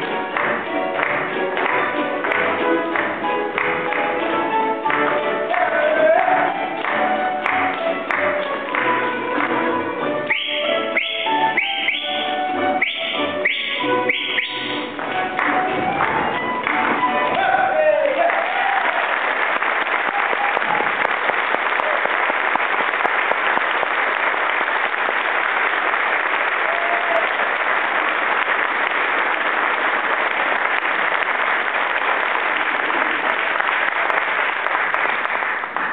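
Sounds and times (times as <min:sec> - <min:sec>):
audience applauding: 0:00.0 - 0:35.9.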